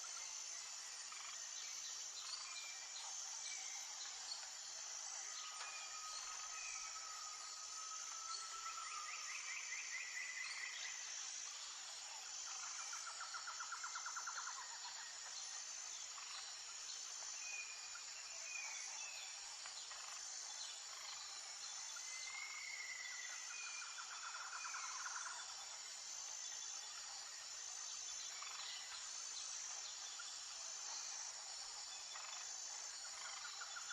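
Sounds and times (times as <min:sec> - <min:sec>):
high insect drone: 0:00.0 - 0:33.9.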